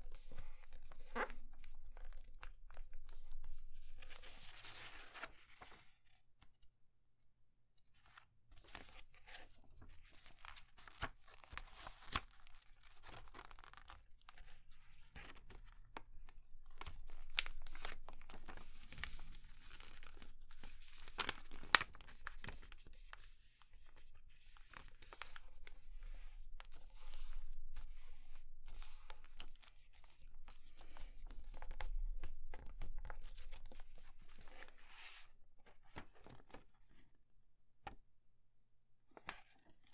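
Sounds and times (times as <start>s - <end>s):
paper rustling and crinkling: 0.1s - 6.1s, 8.0s - 37.0s.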